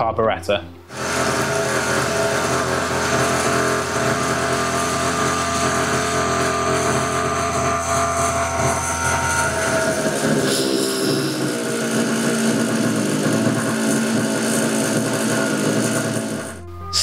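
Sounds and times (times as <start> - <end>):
small petrol engine idling: 0.9 - 16.6.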